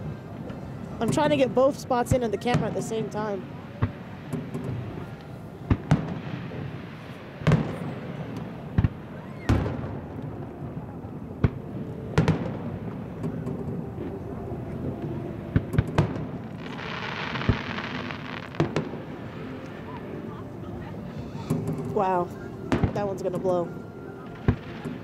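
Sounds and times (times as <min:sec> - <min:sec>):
hissing crackling fireworks: 0:00.0 - 0:25.0
fireworks bangs echoing: 0:02.1 - 0:14.8, 0:15.4 - 0:20.2, 0:21.2 - 0:25.0.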